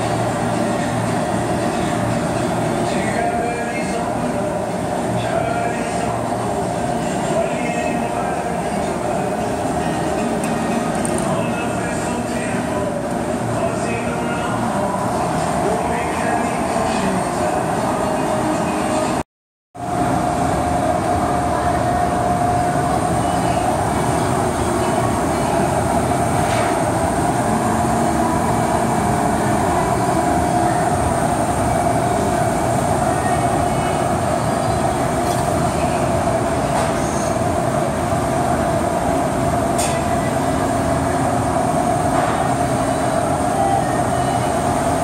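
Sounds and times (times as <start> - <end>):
machine hum and whine: 0.0 - 19.2, 19.8 - 45.0.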